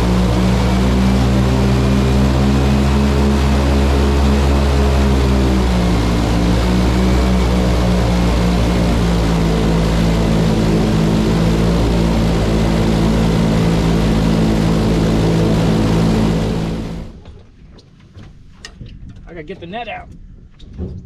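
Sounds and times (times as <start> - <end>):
airboat engine and propeller drone: 0.0 - 17.6.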